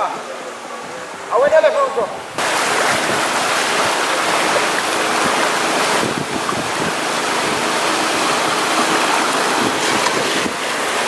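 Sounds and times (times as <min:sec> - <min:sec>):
rush of flowing water: 0:00.0 - 0:11.0.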